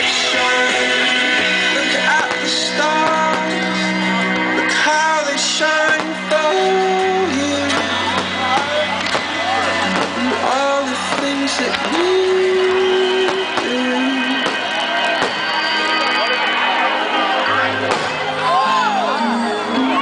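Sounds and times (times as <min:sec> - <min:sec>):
pop-rock music over loudspeakers: 0:00.0 - 0:20.0.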